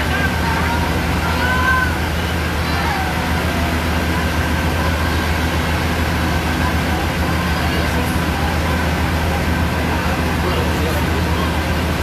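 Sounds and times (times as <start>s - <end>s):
fire truck engine running: 0.0s - 12.0s.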